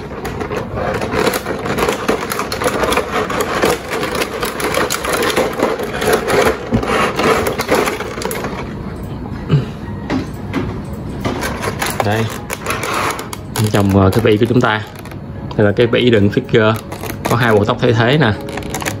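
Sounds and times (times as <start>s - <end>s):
plastic tray crackling: 0.0s - 8.7s, 11.4s - 19.0s.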